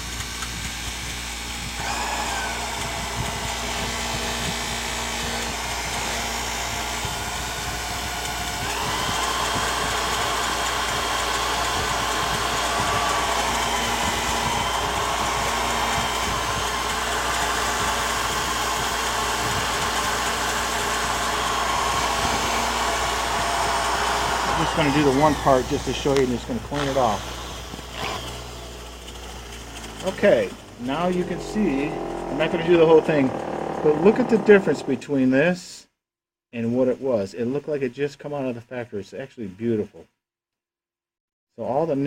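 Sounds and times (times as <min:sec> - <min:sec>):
bench grinder buffing wheel running: 0:00.0 - 0:35.2
drill spinning: 0:00.0 - 0:35.2.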